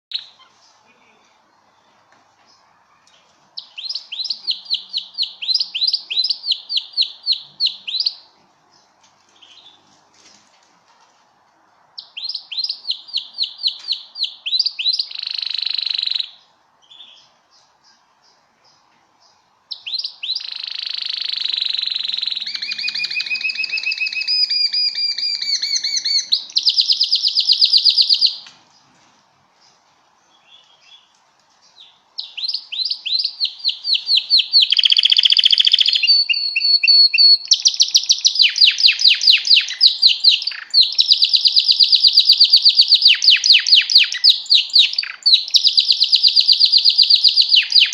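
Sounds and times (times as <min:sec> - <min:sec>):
canary singing trills: 0:00.1 - 0:09.9, 0:12.0 - 0:28.9, 0:30.3 - 0:47.9.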